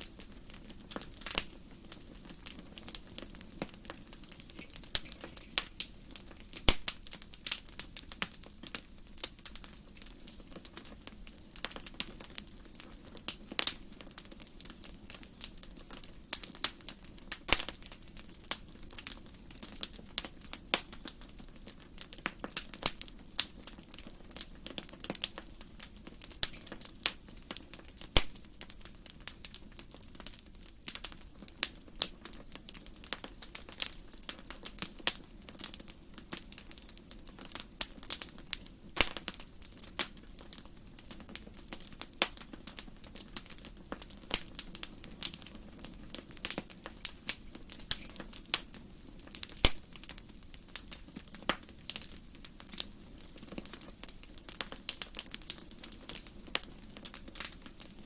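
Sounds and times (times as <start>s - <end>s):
low steady hiss: 0.0s - 58.0s
wood fire crackling and popping: 0.0s - 58.0s.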